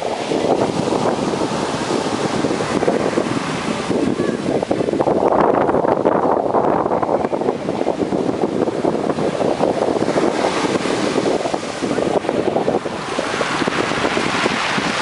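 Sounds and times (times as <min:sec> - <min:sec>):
surf washing on shore: 0:00.0 - 0:15.0
wind buffeting microphone: 0:00.0 - 0:15.0.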